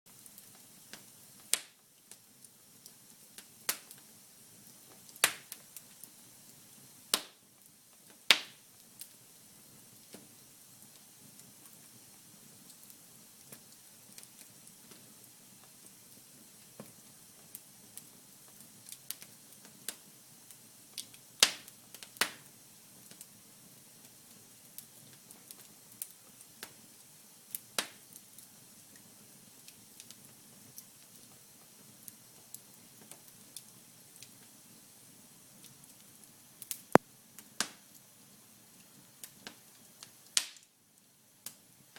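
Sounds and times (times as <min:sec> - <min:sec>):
wood fire crackling: 0:00.1 - 0:41.9.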